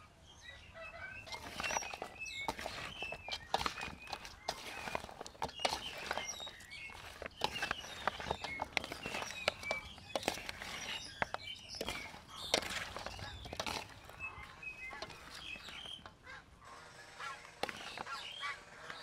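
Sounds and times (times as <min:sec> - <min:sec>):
birds chirping: 0:00.0 - 0:19.0
salad tossed in metal bowl: 0:01.2 - 0:16.1, 0:17.6 - 0:18.2.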